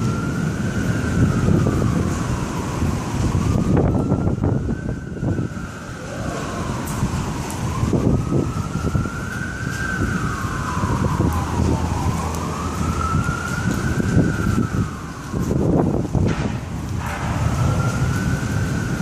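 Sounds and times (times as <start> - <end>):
siren wailing: 0.0 - 19.0
wind gusting on microphone: 0.0 - 19.0.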